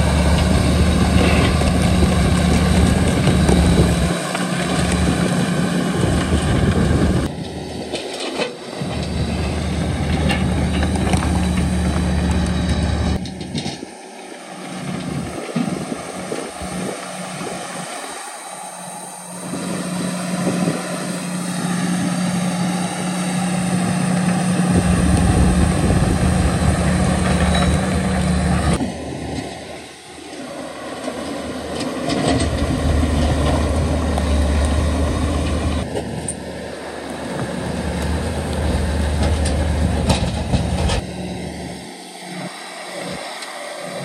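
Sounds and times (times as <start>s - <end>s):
heavy diesel machinery engines: 0.0s - 44.0s.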